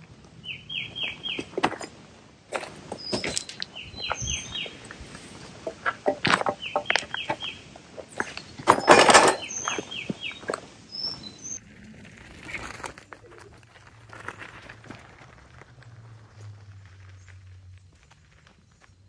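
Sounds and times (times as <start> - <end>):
cart rattling over gravel: 0.4 - 19.0
footsteps on gravel: 0.4 - 19.0.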